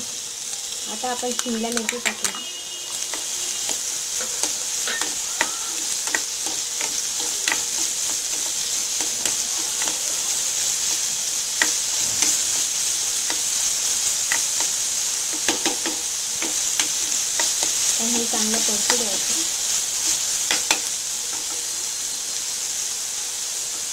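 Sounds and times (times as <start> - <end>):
vegetables sizzling in hot oil: 0.0 - 23.9
spatula scraping a pan: 2.0 - 22.0.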